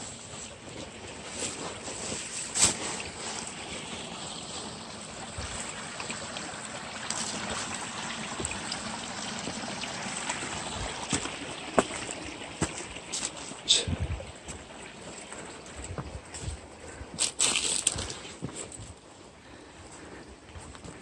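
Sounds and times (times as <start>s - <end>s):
mountain stream rushing: 0.0s - 18.7s.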